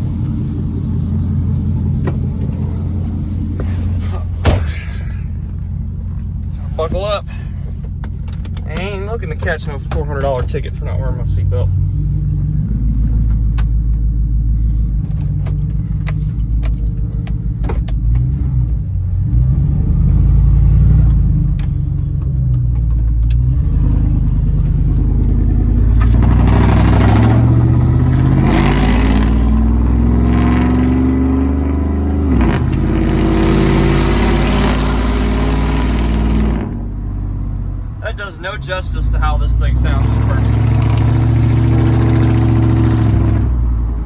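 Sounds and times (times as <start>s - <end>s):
vw eight engine rumbling: 0.0s - 44.0s.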